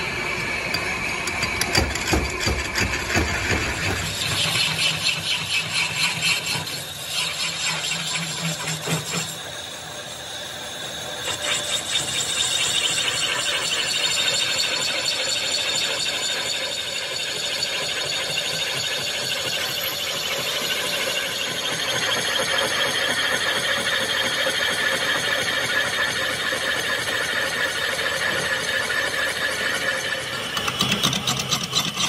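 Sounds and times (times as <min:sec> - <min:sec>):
lathe cutting tool squealing: 0:00.0 - 0:32.0.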